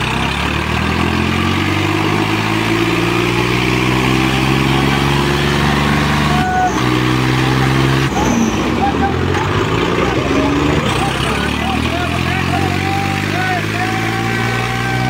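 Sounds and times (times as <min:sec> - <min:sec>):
tractor diesel engine revving: 0:00.0 - 0:15.0.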